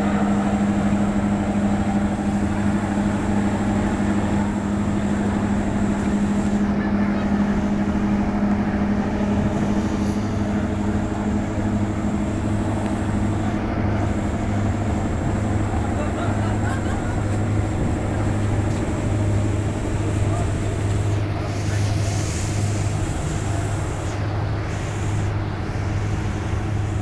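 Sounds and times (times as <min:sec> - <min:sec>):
ship engines droning: 0:00.0 - 0:27.0
water rushing in wake: 0:00.0 - 0:27.0.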